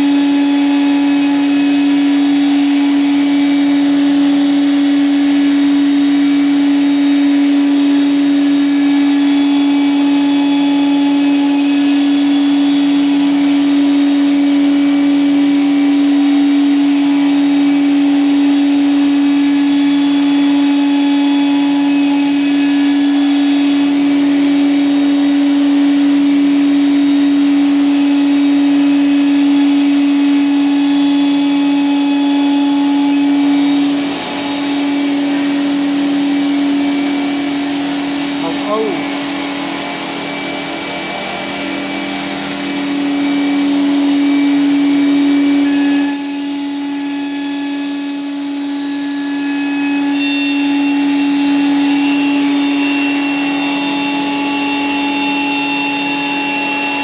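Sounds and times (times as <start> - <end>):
machining whir: 0.0 - 57.0
woodworking machine humming: 0.0 - 57.0.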